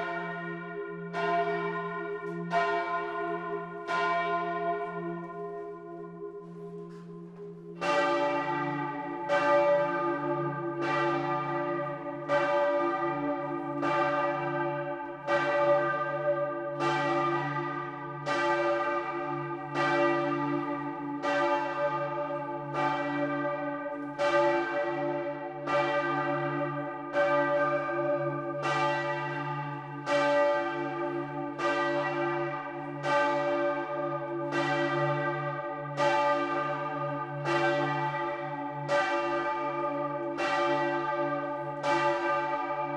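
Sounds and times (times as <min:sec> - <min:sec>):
large church bells ringing: 0:00.0 - 0:42.9.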